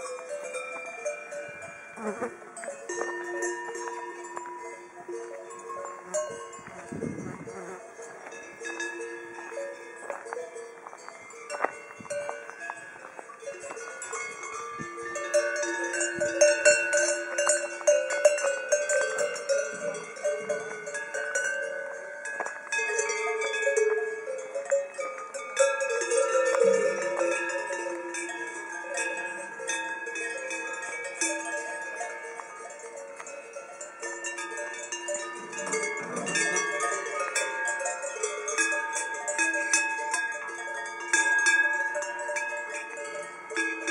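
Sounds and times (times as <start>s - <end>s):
cowbells clanking and ringing: 0.0s - 43.9s.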